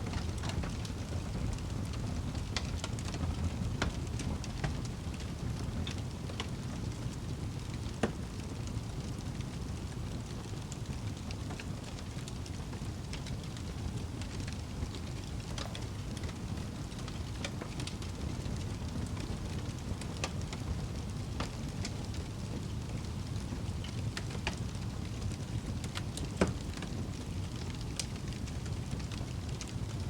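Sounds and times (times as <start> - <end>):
fire crackles and pops: 0.0 - 30.0
fire low rumble: 0.0 - 30.0.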